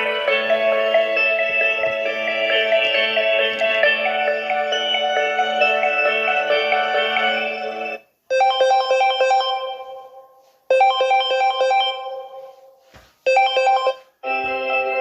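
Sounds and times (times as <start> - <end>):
chime-like phone ringtone: 0.0 - 12.6, 13.3 - 15.0
different ringtone: 0.0 - 12.7, 13.3 - 15.0.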